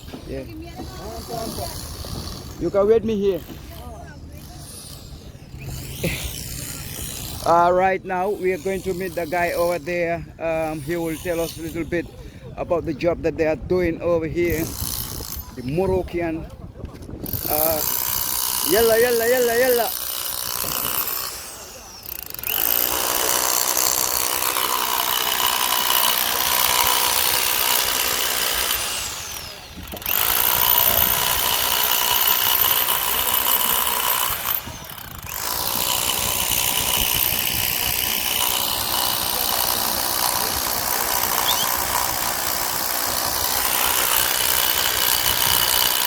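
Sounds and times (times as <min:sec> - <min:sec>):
road construction machinery: 0:00.0 - 0:12.8, 0:14.5 - 0:46.0.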